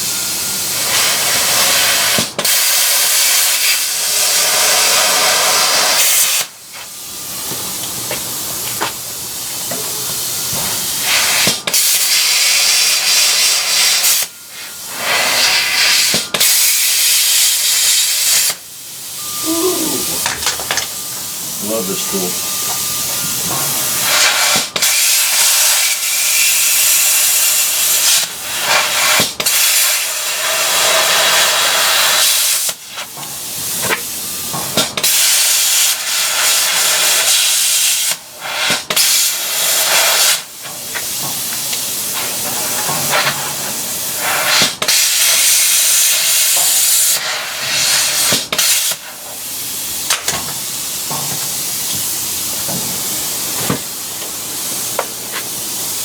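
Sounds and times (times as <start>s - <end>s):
plasma cutter hissing: 0.3s - 7.0s, 8.2s - 56.0s.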